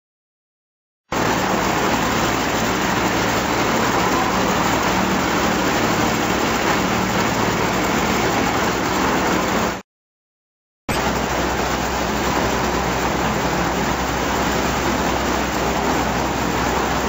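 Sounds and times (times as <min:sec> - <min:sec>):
aircraft radial engines running: 0:01.1 - 0:09.8, 0:10.9 - 0:17.0
propeller and exhaust rush: 0:01.1 - 0:09.8, 0:10.9 - 0:17.0.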